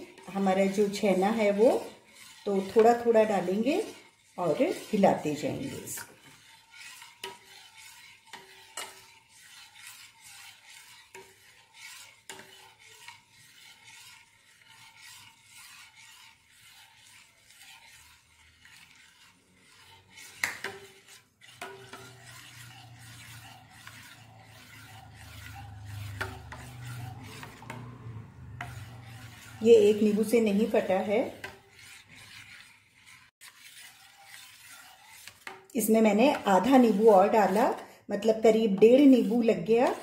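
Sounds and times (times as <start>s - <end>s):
ladle scraping metal pot: 0.0s - 40.0s.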